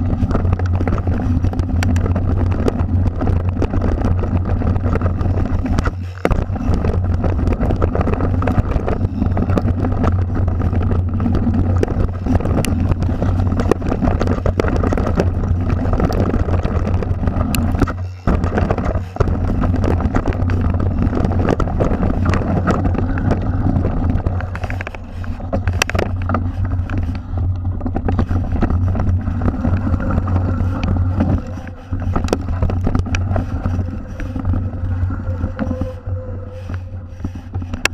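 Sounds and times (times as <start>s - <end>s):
bike rattles and knocks: 0.0s - 37.9s
tyres on dirt trail: 0.0s - 37.9s
wind buffeting microphone: 0.0s - 37.9s.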